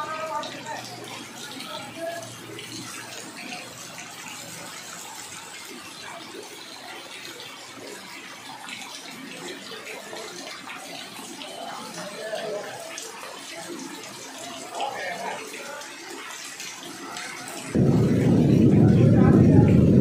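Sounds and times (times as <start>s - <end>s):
running water: 0.0s - 20.0s
steady rain falling: 0.0s - 20.0s.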